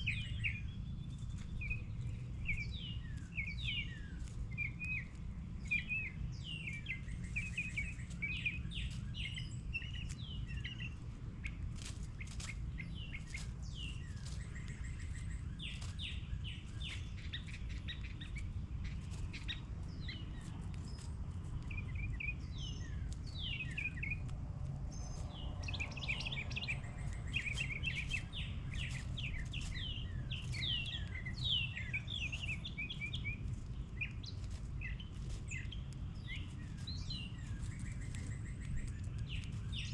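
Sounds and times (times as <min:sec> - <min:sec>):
small birds chirping: 0:00.0 - 0:39.9
steady low rumble: 0:00.0 - 0:39.9.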